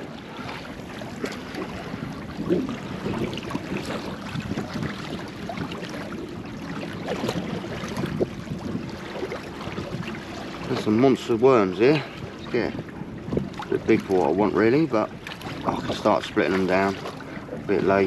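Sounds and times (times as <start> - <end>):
water lapping against boat hull: 0.0 - 18.0
wind on microphone: 0.0 - 18.0.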